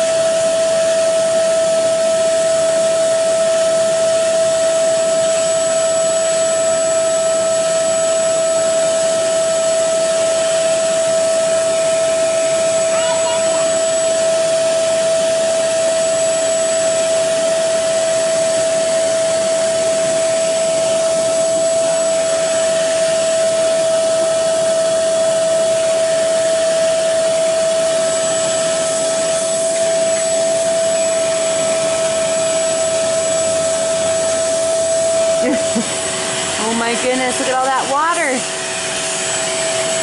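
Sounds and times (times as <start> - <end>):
carpet cleaner suction motor whine: 0.0 - 40.0.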